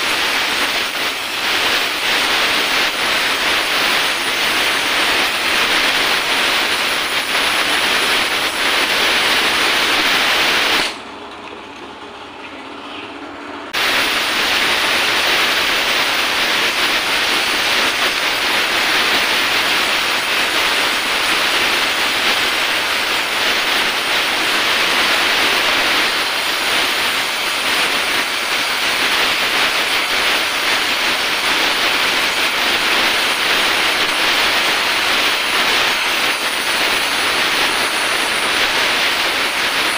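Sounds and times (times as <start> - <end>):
welding torch hissing: 0.0 - 11.0, 13.7 - 39.9.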